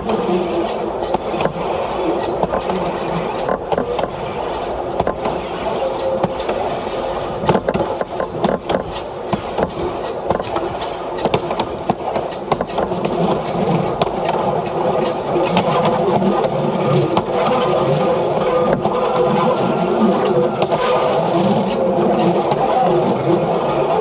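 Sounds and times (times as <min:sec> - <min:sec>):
railcar engine rumble: 0:00.0 - 0:24.0
wheels clicking and knocking: 0:00.0 - 0:24.0.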